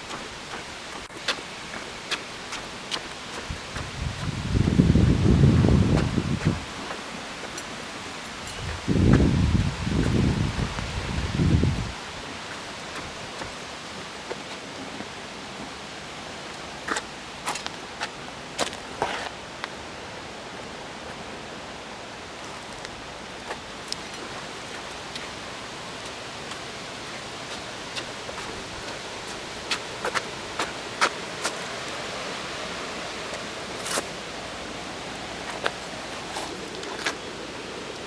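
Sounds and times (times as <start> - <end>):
river rushing: 0.0 - 38.0
wind: 0.0 - 38.0.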